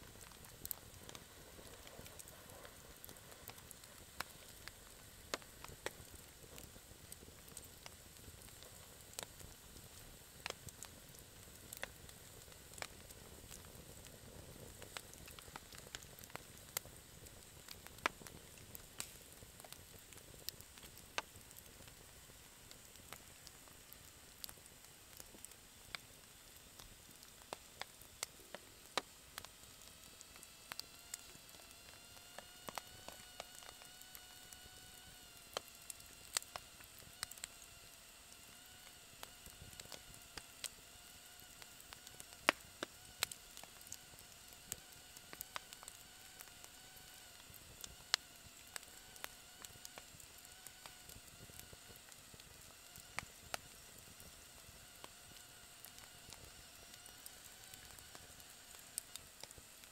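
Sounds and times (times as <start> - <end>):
campfire crackling and popping: 0.0 - 59.9
thin whistle from burning wood: 0.0 - 59.9.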